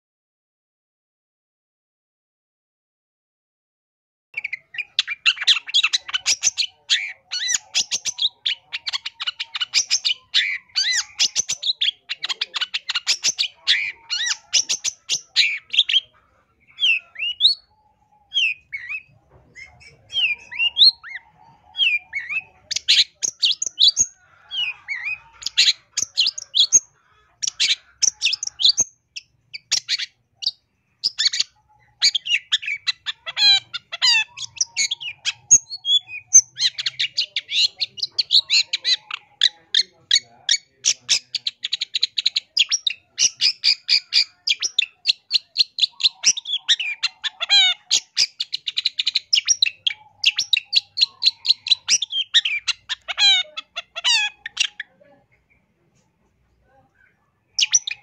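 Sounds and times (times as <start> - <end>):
shrike singing: 4.4 - 55.6.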